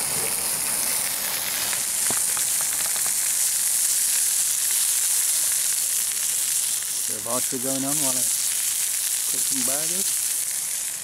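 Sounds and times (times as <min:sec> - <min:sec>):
burgers sizzling in a frying pan: 0:00.0 - 0:11.0
fire crackling: 0:00.0 - 0:11.0.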